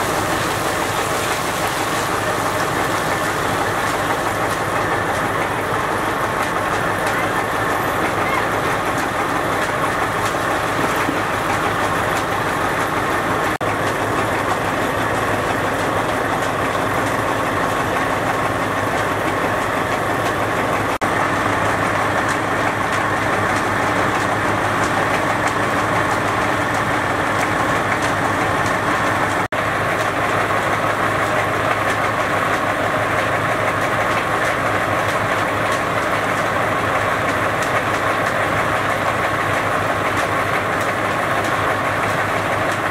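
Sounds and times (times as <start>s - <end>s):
engine humming steadily: 0.0s - 42.9s.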